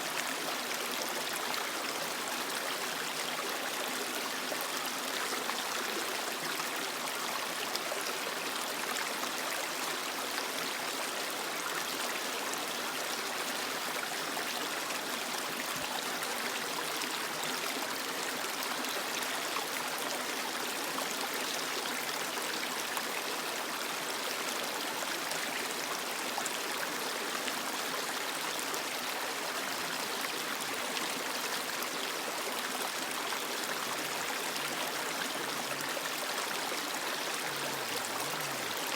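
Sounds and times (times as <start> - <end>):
creek water over rocks: 0.0 - 38.9.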